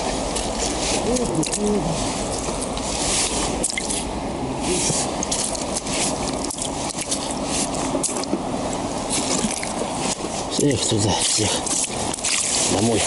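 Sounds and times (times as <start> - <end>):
wet fish sliding on slushy ice: 0.0 - 13.0.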